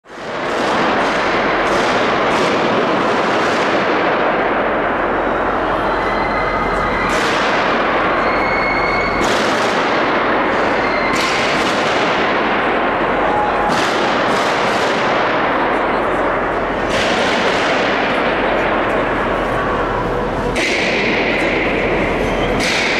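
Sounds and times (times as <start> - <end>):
constant loud din: 0.0 - 22.9
echoing gunshots: 0.1 - 5.9, 7.0 - 22.9.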